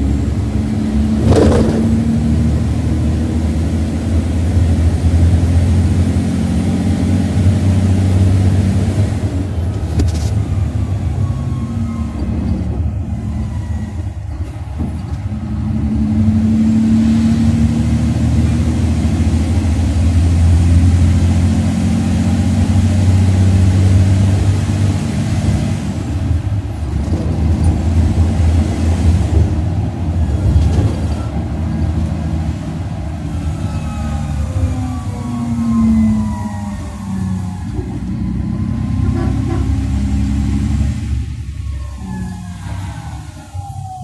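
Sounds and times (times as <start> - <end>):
coach engine rumble: 0.0 - 44.0.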